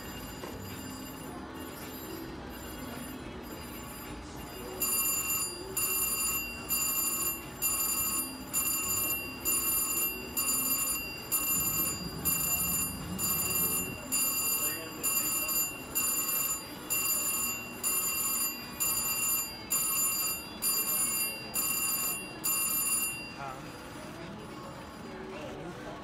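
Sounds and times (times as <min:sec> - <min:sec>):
casino din: 0:00.0 - 0:23.3
slot machine electronic bell ringing: 0:00.0 - 0:25.1.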